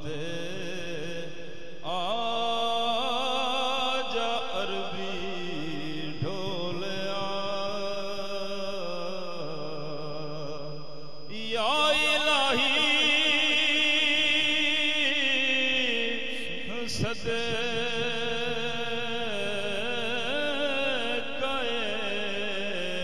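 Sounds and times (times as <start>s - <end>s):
man singing into a microphone: 0.0s - 23.0s.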